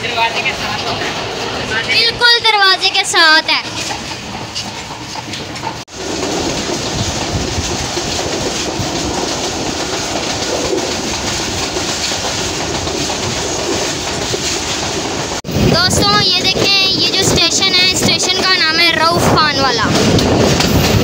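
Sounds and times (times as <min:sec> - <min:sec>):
train rumbling inside coach: 0:00.0 - 0:21.0
wheels clattering on rails: 0:00.0 - 0:21.0.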